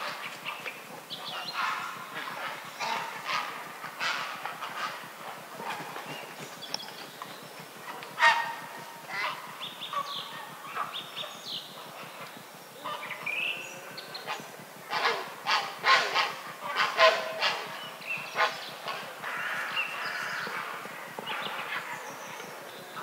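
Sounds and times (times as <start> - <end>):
songbirds chirping: 0.0 - 23.0
herons calling harshly: 0.3 - 23.0.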